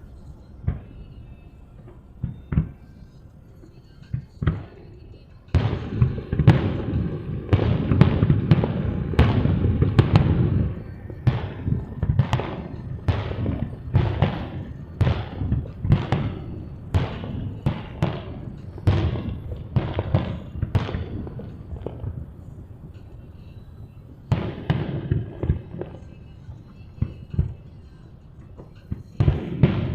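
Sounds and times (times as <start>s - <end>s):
fireworks bangs: 0.0s - 29.9s.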